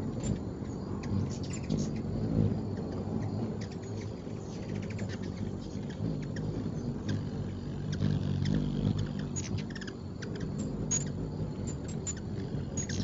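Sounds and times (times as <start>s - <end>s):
hummingbirds chipping: 0.0s - 13.0s
low steady hum: 0.0s - 13.0s.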